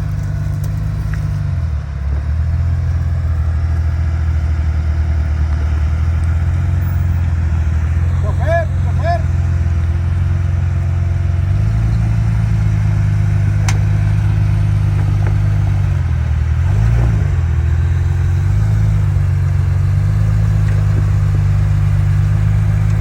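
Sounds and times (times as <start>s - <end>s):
off-road vehicle engine under load: 0.0s - 23.0s.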